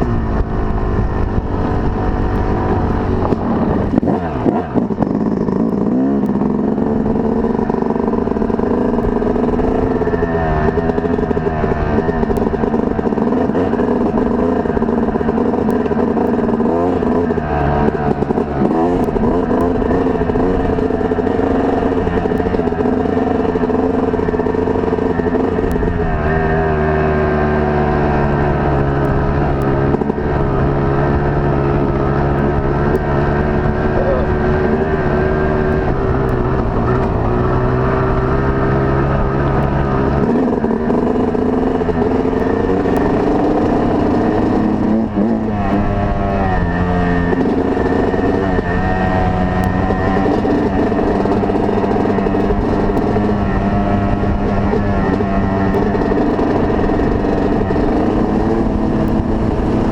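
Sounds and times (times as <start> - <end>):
off-road motorcycle engine: 0.0 - 59.9.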